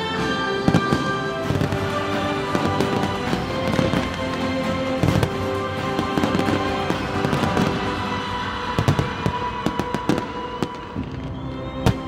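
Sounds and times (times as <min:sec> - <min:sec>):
fireworks bangs and cracks: 0:00.0 - 0:12.0
music soundtrack: 0:00.0 - 0:12.0.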